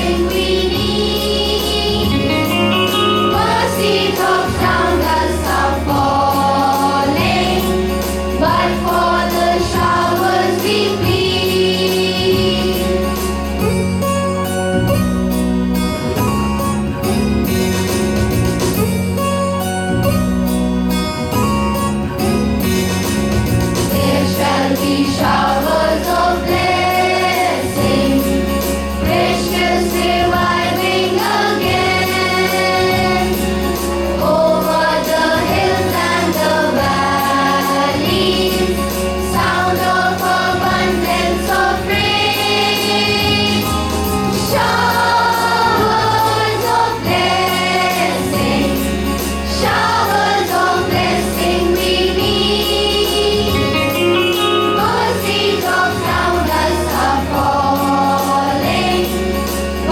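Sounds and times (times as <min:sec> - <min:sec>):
choir singing a hymn: 0:00.0 - 0:13.6, 0:23.9 - 0:59.9
instrumental accompaniment: 0:00.0 - 0:59.9.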